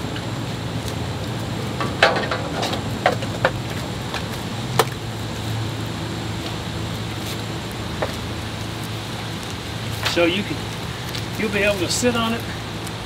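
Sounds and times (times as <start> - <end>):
steady low hum: 0.0 - 13.0
packing material crackles and taps: 0.1 - 5.4, 6.4 - 13.0.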